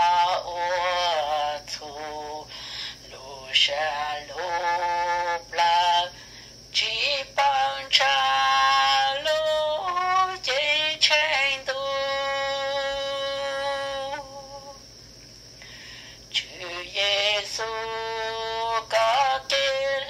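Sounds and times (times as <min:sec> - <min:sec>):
person singing slow melody: 0:00.0 - 0:20.0.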